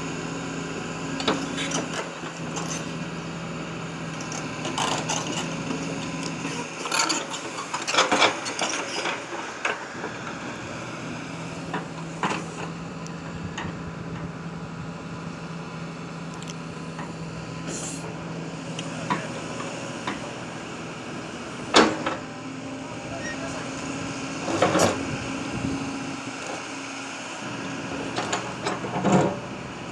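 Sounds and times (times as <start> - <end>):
excavator engine droning: 0.0 - 29.9.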